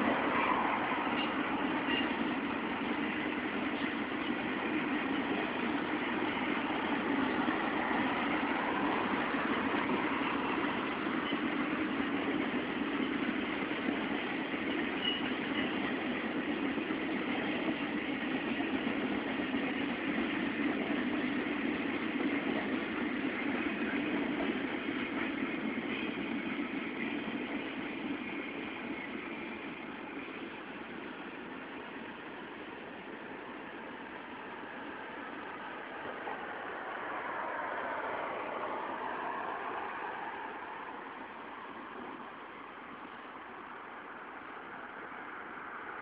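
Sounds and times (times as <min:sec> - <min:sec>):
train trailers rolling on rails: 0:00.0 - 0:46.0.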